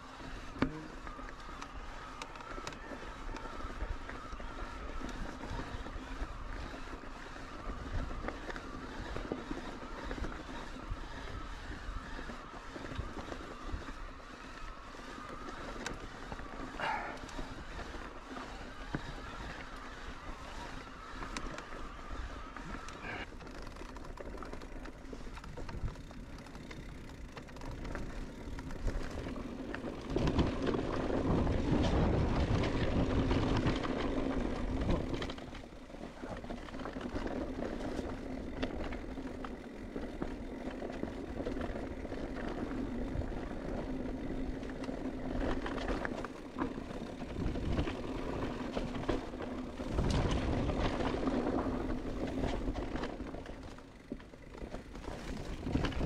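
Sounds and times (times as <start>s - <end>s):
bike rattling and knocking: 0.0s - 56.0s
tyres rolling over gravel: 0.0s - 56.0s.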